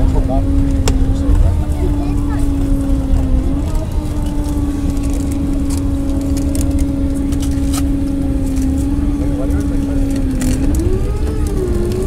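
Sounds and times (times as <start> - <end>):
jet engine hum: 0.0 - 12.0
low rumble of wheels on runway: 0.0 - 12.0.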